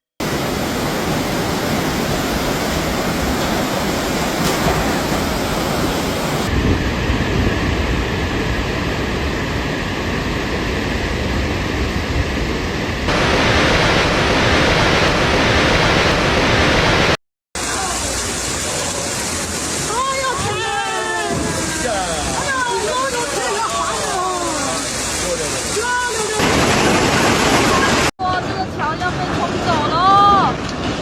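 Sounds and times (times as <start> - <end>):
torrent of water rushing: 0.2 - 31.0.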